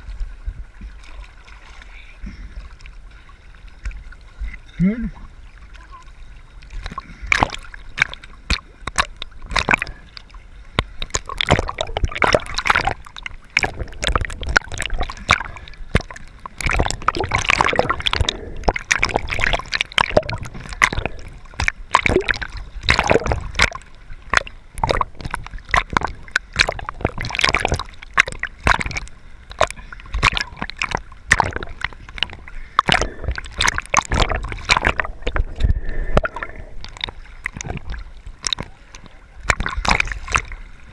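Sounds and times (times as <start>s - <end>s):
water splashing against camera: 0.0s - 40.9s.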